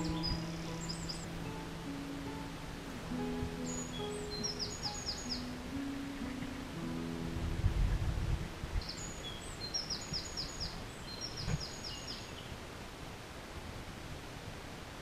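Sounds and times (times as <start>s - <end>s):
songbird singing high chirps: 0.0s - 12.6s.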